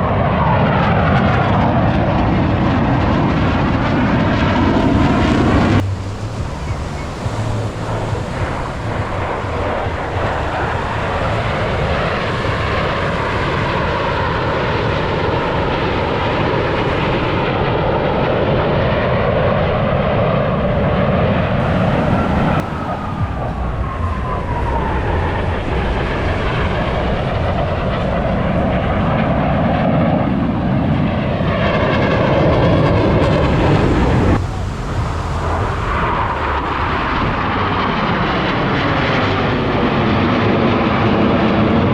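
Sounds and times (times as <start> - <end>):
jet engines flying overhead: 0.0 - 41.9
jet passing with falling whine: 0.0 - 41.9.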